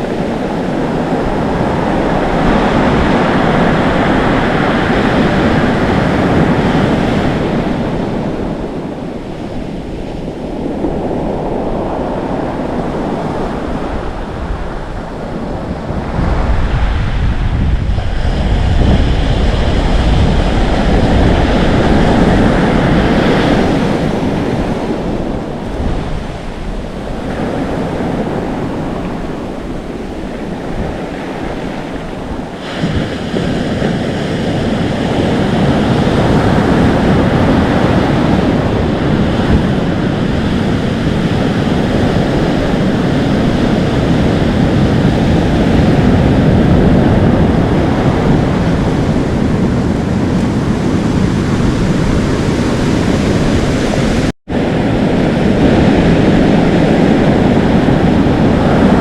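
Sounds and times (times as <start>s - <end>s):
waves crashing on shore: 0.0s - 59.0s
wind rumbling on microphone: 0.0s - 59.0s.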